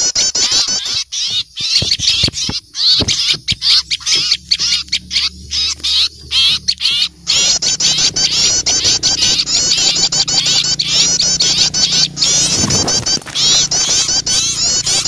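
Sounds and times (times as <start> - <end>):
small birds chattering in alarm: 0.0 - 15.0.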